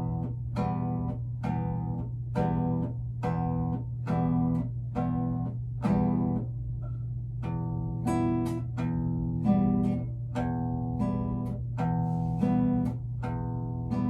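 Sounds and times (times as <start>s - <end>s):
low hum: 0.0s - 14.0s
plucked string notes: 0.0s - 14.0s.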